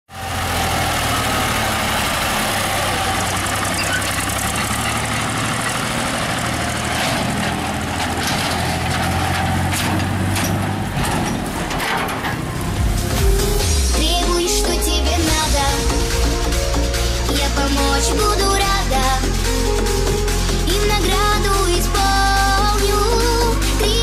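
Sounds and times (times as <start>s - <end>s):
tractor engine idling: 0.1s - 24.0s.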